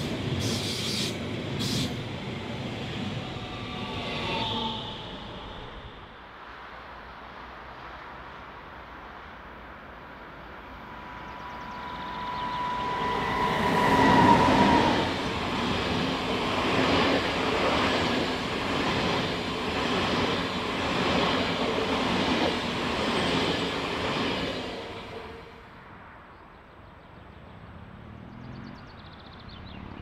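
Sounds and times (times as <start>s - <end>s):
train passing at speed: 0.0s - 26.6s.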